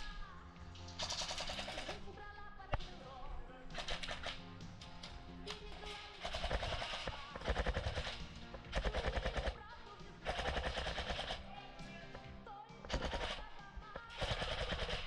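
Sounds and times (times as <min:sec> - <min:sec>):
background music: 0:00.0 - 0:15.0
airsoft guns firing: 0:00.8 - 0:15.0.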